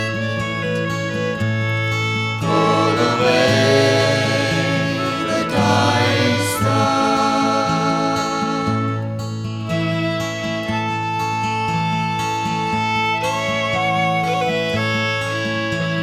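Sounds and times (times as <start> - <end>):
folk band music: 0.0 - 16.0.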